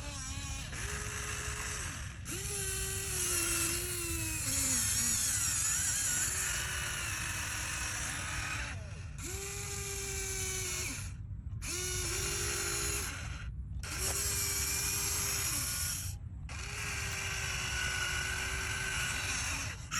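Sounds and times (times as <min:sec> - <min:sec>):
small electric motors whirring: 0:00.0 - 0:19.9.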